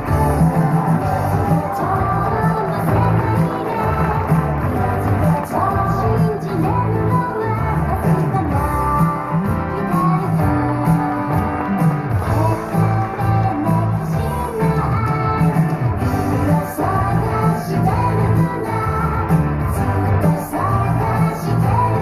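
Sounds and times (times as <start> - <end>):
pop-rock song over loudspeakers: 0.0 - 22.0.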